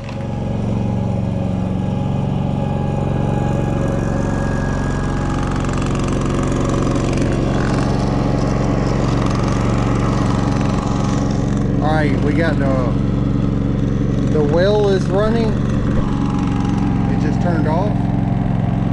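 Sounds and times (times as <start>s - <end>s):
generator engine running: 0.0s - 18.9s.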